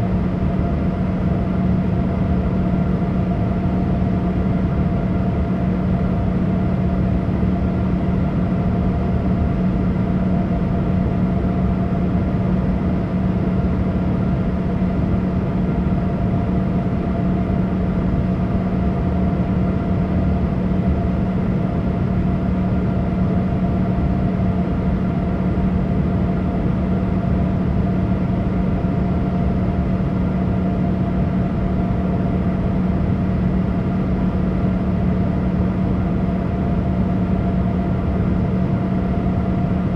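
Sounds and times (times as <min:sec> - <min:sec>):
steady humming tones: 0:00.0 - 0:39.9.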